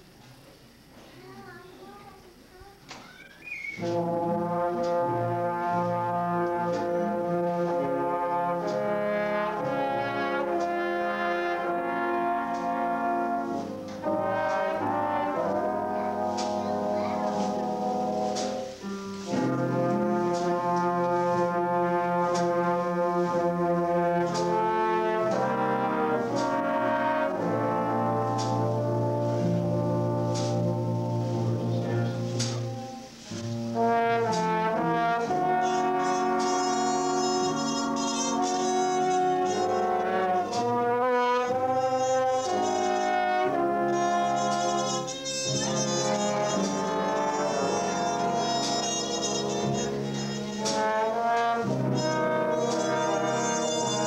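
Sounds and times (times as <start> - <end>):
brass ensemble chords: 3.8 - 54.0.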